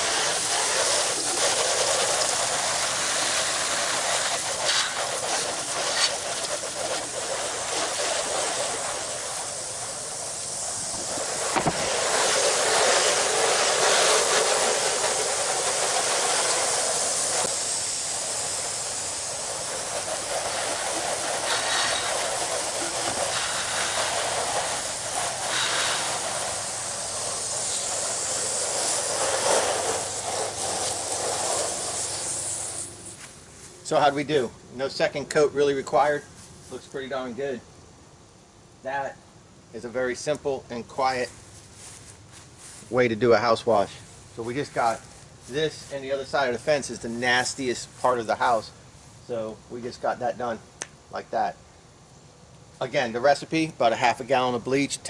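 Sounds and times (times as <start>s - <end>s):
hose spray hitting siding: 0.0s - 37.3s, 39.8s - 51.1s.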